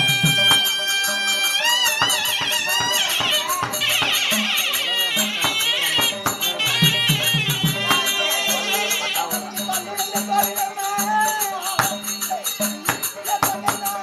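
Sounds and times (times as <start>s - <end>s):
reed wind instrument melody: 0.0s - 13.2s
drum strokes: 0.0s - 14.0s
hand cymbals: 0.0s - 14.0s
person singing: 2.4s - 14.0s.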